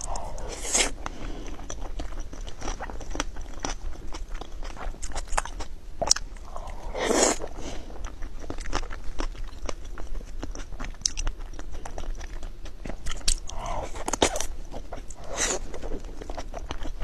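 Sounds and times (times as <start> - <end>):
wet chewing mouth sounds: 0.0 - 17.0.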